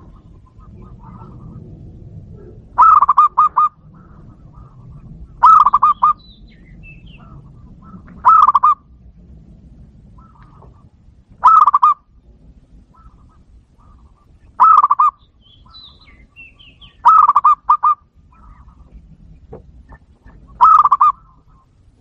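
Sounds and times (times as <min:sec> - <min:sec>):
dove cooing: 0:00.0 - 0:08.9, 0:10.0 - 0:12.1, 0:12.7 - 0:22.0.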